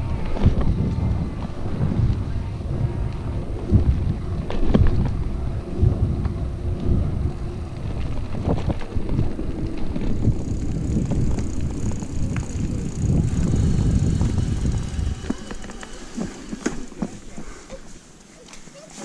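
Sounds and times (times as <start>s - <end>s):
faint high whine: 0.0s - 17.5s
wind rumbling on microphone: 0.0s - 17.6s
bike tyre noise: 0.0s - 19.0s.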